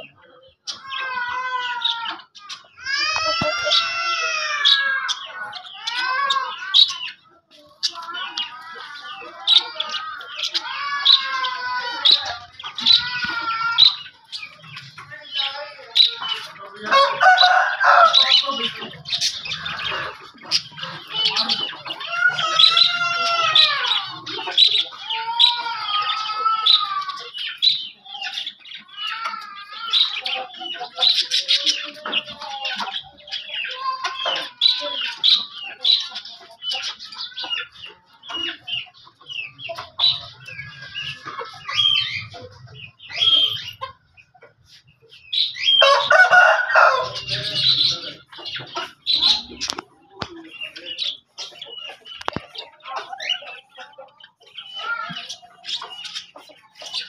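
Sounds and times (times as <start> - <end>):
caged birds chirping and whistling: 0.0 - 57.0.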